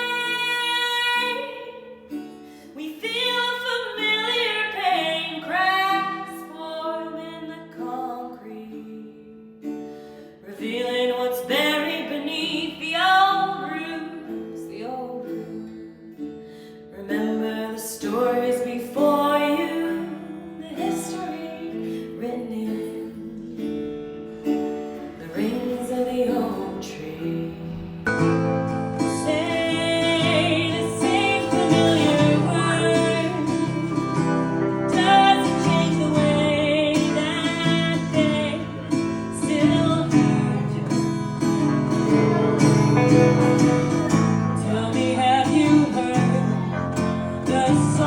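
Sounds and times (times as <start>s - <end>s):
woman singing: 0.0s - 28.0s, 28.7s - 48.0s
acoustic guitar: 0.0s - 48.0s.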